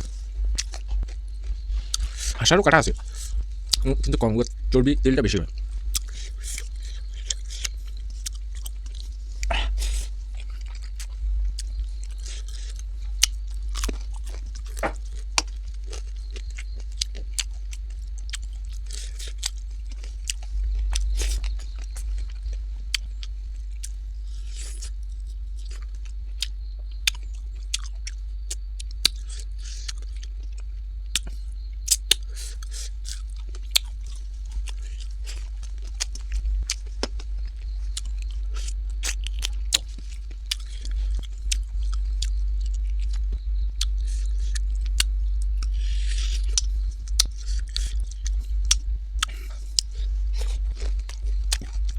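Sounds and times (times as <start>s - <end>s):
person chewing food: 0.0s - 4.7s, 5.5s - 51.9s
steady low hum: 0.0s - 51.9s.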